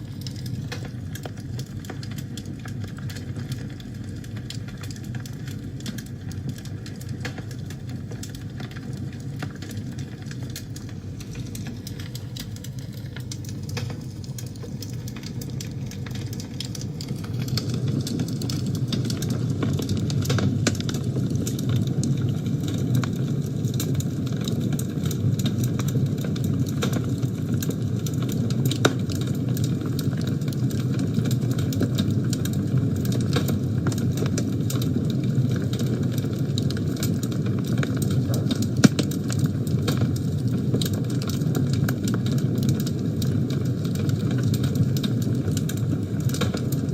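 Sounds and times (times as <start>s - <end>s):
fire crackling and popping: 0.0s - 46.9s
fire roaring: 0.0s - 46.9s.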